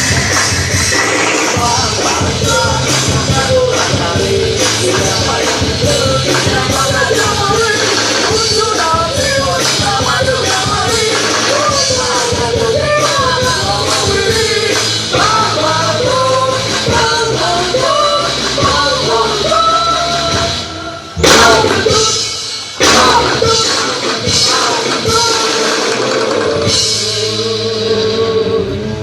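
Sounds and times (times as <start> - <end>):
loud rock music: 0.0 - 29.0
person singing: 0.0 - 29.0.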